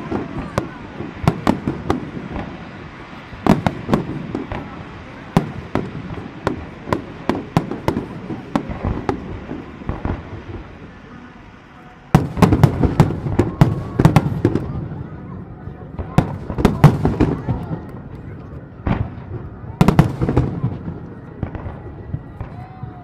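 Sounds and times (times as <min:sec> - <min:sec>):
fireworks bangs and cracks: 0:00.0 - 0:23.0.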